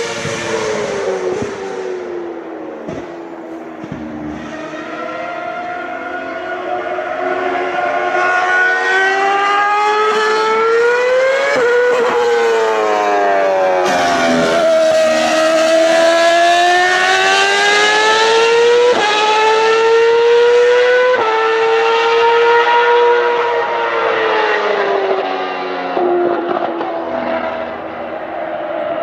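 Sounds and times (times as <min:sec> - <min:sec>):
racing car engine at high revs: 0:00.0 - 0:29.0.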